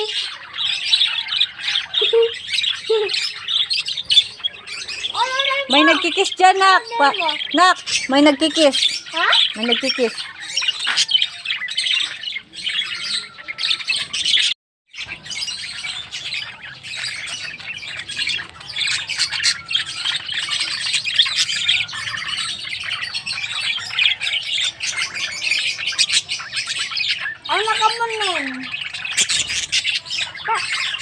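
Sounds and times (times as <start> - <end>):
lovebirds chattering: 0.0 - 31.0.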